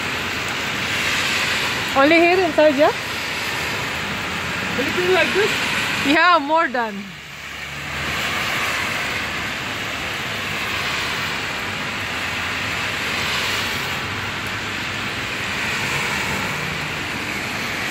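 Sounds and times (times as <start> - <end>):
faint hum of passing traffic: 0.0 - 17.9
heavy rain on pavement and cars: 0.0 - 17.9.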